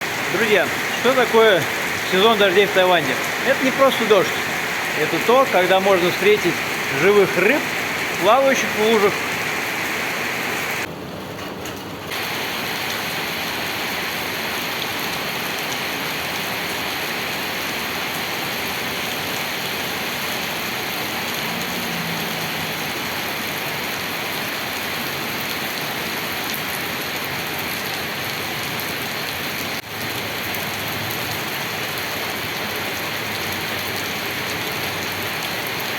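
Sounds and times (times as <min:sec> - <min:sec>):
rain falling on puddles: 0:00.0 - 0:35.9.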